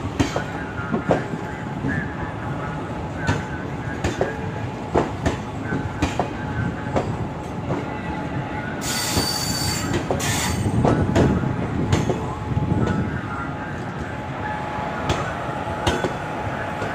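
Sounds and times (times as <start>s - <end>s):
steady train rumble: 0.0s - 16.9s.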